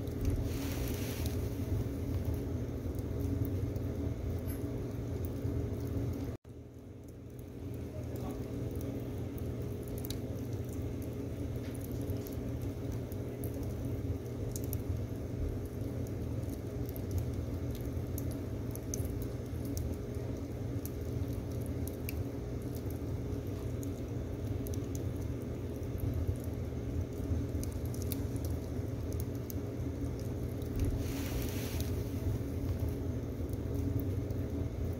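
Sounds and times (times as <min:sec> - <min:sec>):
firewood crackling and popping: 0:00.0 - 0:34.9
low rumble of stove fire: 0:00.0 - 0:34.9.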